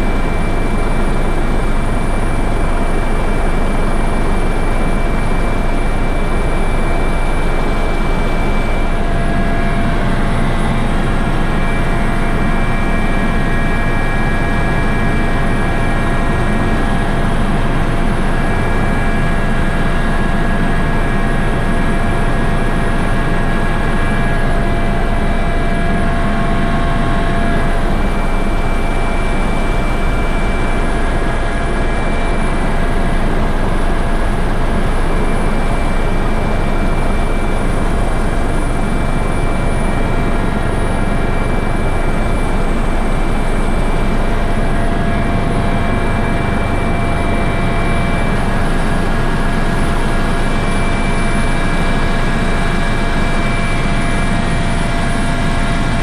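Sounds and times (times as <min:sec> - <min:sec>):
helicopter engine and rotor drone: 0:00.0 - 0:56.0
high whine: 0:00.0 - 0:56.0.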